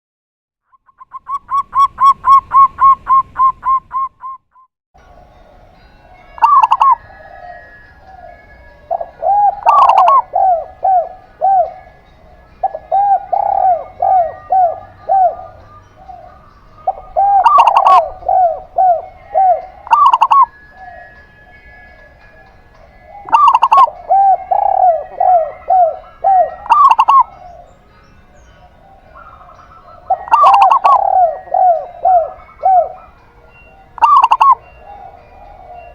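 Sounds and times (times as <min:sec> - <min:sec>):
doves cooing: 0:06.4 - 0:27.8, 0:28.4 - 0:35.9.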